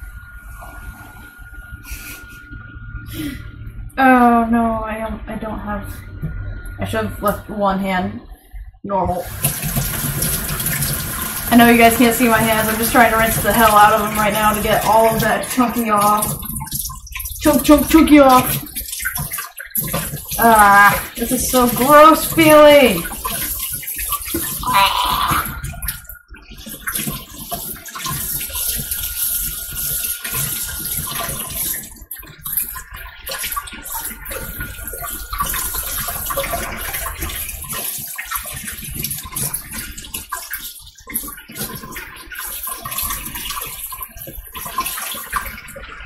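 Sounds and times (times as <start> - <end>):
faucet running: 9.1 - 46.0.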